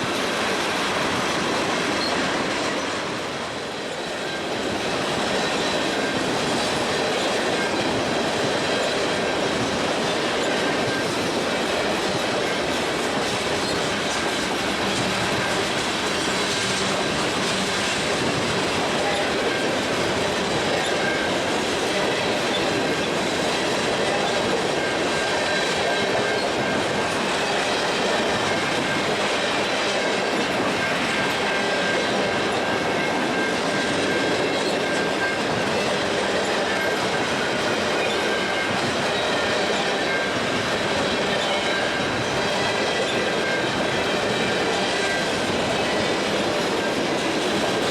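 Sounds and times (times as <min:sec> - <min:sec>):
high whine from train wheels: 0:00.0 - 0:47.9
train wheels clicking on rail joints: 0:00.0 - 0:47.9.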